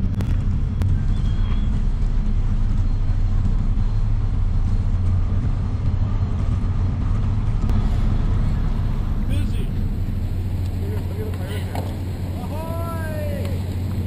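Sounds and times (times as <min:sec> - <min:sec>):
ship engines and propellers rumbling: 0:00.0 - 0:14.0.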